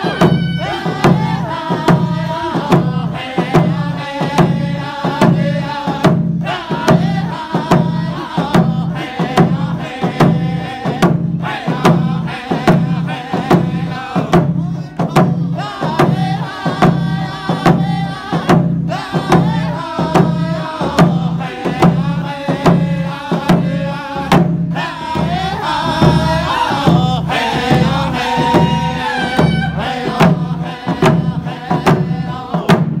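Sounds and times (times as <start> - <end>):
hide frame drums beating: 0.0 - 33.0
men singing in unison: 0.0 - 33.0.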